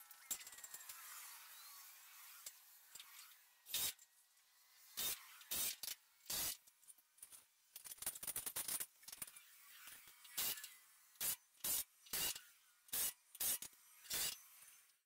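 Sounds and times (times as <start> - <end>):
bursts of hardware work noise: 0.0 - 6.7, 7.9 - 15.0.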